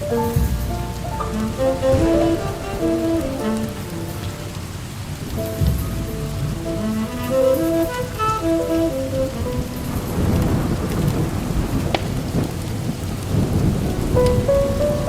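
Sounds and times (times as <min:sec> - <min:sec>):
fireplace crack: 0:00.0 - 0:15.0
jazz melody: 0:00.0 - 0:15.0
low rumble of thunder: 0:00.0 - 0:15.0
steady rain: 0:00.0 - 0:15.0.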